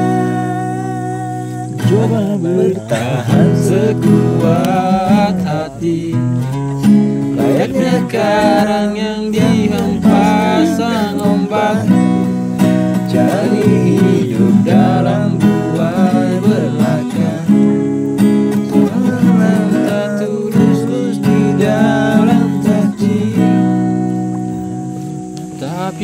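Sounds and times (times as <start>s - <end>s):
person singing: 0.0s - 24.1s
acoustic guitar strumming: 0.0s - 26.0s.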